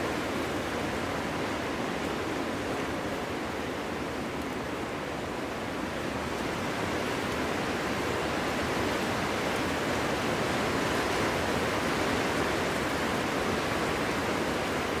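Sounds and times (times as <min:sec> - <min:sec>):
wind blowing steadily: 0:00.0 - 0:15.0.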